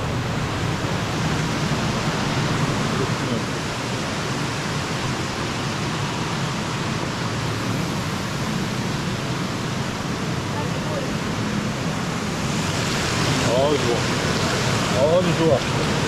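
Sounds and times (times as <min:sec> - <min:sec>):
water jets splashing into pool: 0:00.0 - 0:16.0.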